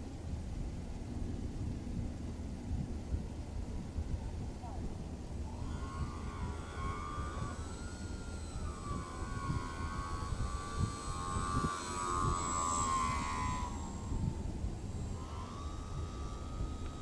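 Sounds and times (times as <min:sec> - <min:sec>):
model plane motor whining: 0:02.1 - 0:17.0.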